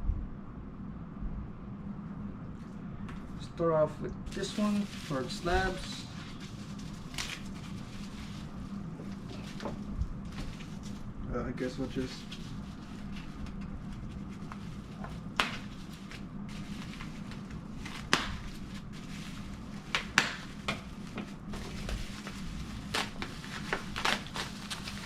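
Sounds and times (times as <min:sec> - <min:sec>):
steady low hum: 0:00.0 - 0:25.0
packaging rustling: 0:04.3 - 0:11.1, 0:11.7 - 0:25.0.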